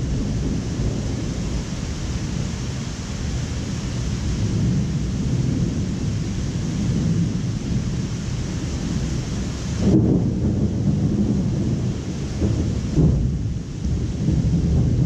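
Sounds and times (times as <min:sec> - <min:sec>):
rain hissing: 0:00.0 - 0:15.0
rolling thunder: 0:00.0 - 0:15.0.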